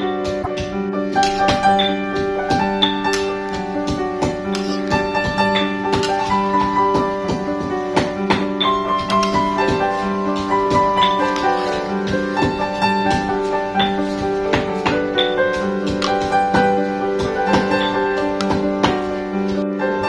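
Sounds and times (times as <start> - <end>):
piano background music: 0.0 - 20.0.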